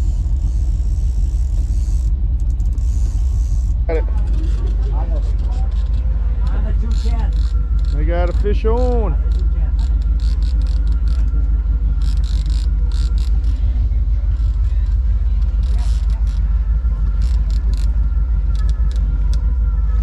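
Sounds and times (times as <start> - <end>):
boat engine rumble: 0.0 - 20.0.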